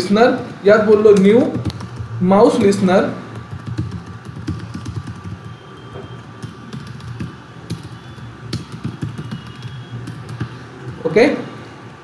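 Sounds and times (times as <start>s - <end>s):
computer keyboard typing: 0.3s - 11.1s.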